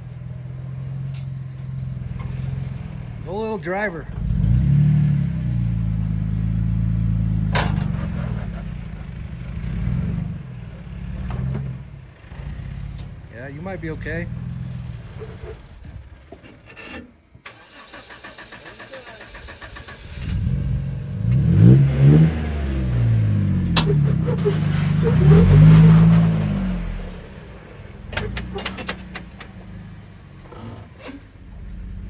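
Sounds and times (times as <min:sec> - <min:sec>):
engine revving hard under load: 0:02.3 - 0:16.0, 0:17.5 - 0:32.0.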